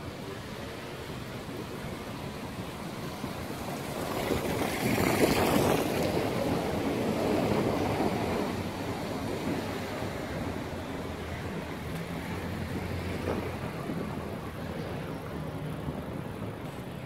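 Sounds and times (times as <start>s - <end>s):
wind rushing over microphone: 0.0s - 17.0s
bicycle tyre noise on path: 0.2s - 17.0s.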